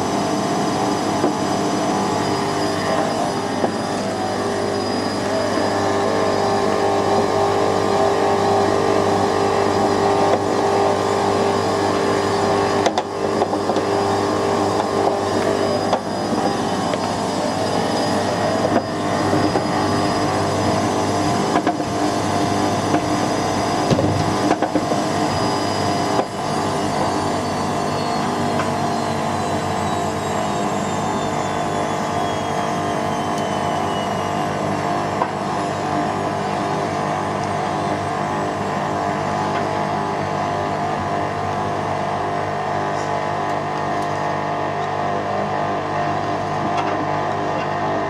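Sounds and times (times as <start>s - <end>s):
washing machine motor hum: 0.0s - 48.0s.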